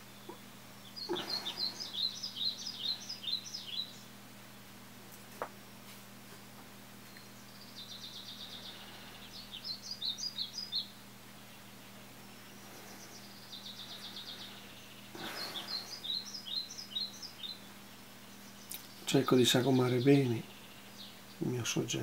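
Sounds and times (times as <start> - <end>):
songbird trilling and chirping: 0.0 - 4.1, 7.0 - 21.9
faint steady hum: 0.0 - 22.0.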